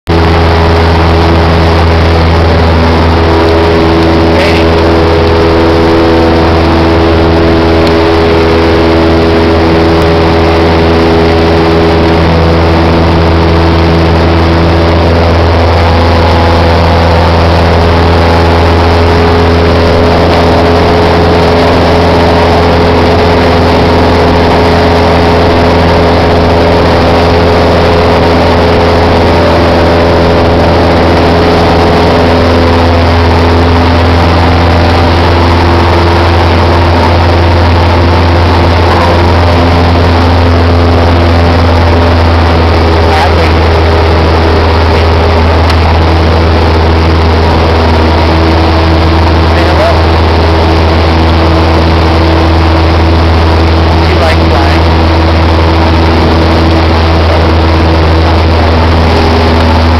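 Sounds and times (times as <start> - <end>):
airplane engine and propeller drone: 0.0 - 59.9
wind and airflow noise: 0.1 - 59.9.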